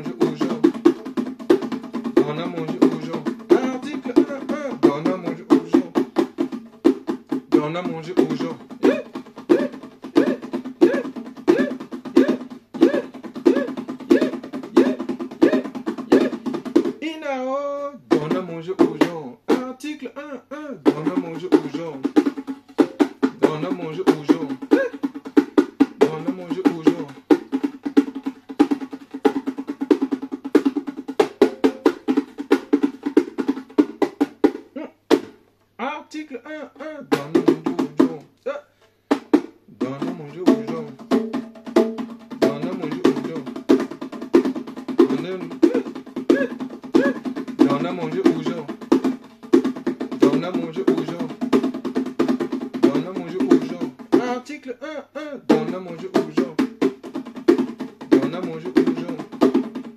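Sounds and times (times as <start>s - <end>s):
bongos played by hand: 0.0s - 59.9s.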